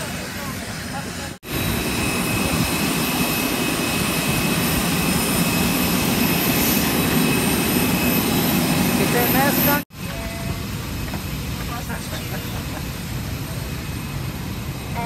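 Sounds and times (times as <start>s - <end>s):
jet turbine roar and whine: 0.0s - 15.0s.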